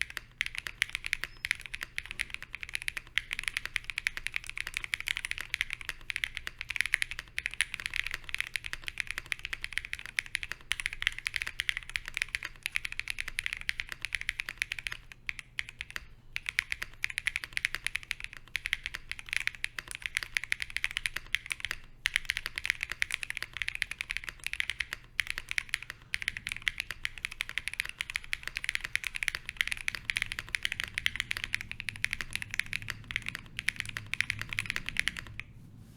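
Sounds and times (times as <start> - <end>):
fast typing on mechanical keyboard: 0.0 - 35.5.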